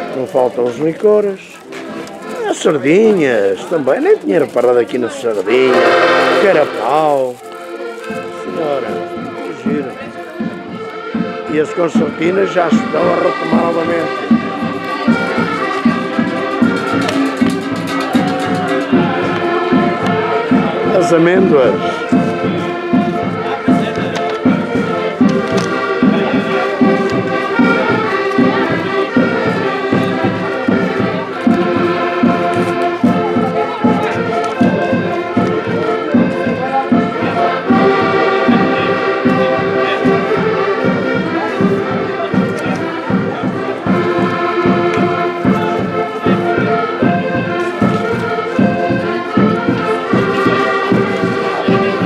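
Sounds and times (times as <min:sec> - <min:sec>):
button accordions playing folk tune: 0:00.0 - 0:52.0.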